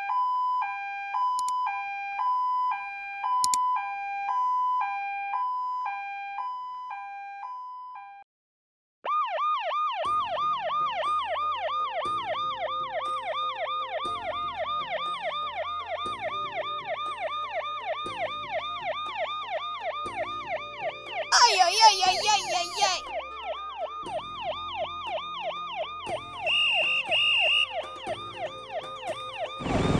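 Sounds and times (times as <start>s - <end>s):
two-tone siren: 0.0s - 8.2s, 9.0s - 29.9s
yelp siren: 0.0s - 8.2s, 9.1s - 29.9s.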